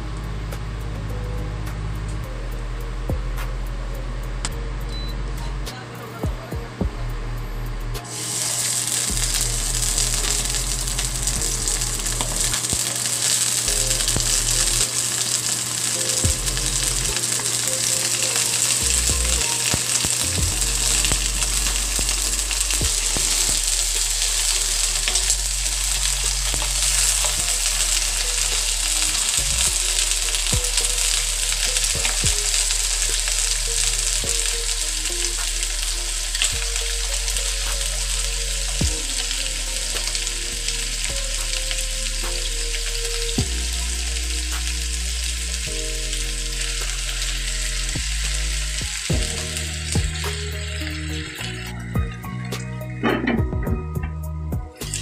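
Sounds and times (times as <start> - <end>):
chicken sizzling in hot oil: 8.0 - 52.2.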